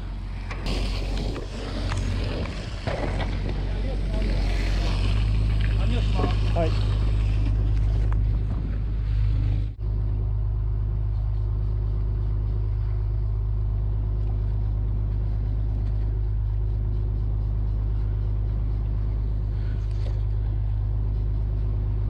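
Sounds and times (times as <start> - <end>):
boat engine droning: 0.0 - 22.0
faint hum: 0.0 - 22.0.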